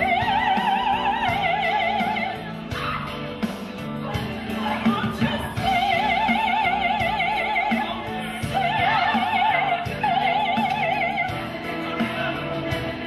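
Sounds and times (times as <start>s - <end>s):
low musical accompaniment: 0.0s - 13.0s
operatic singing voice: 0.0s - 13.0s.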